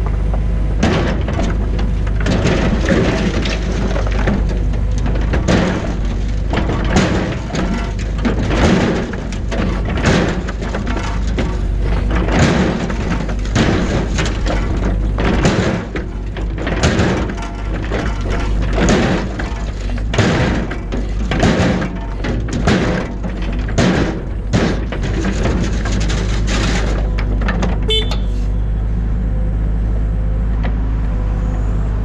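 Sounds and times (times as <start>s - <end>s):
stones clattering and thudding: 0.8s - 28.3s.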